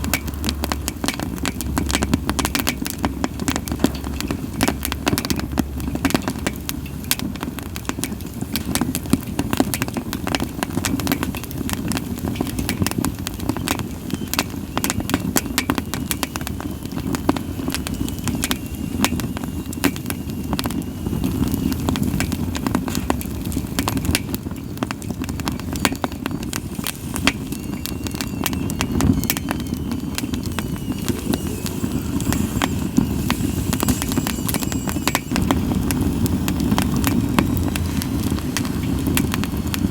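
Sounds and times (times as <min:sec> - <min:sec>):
faint hiss from burning wood: 0:00.0 - 0:39.9
firewood crackling and popping: 0:00.0 - 0:39.9
low rush of flames: 0:00.0 - 0:39.9.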